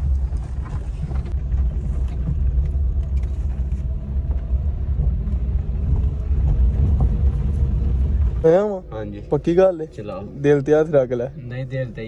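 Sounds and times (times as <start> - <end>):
car rumbling on dirt track: 0.0 - 12.0.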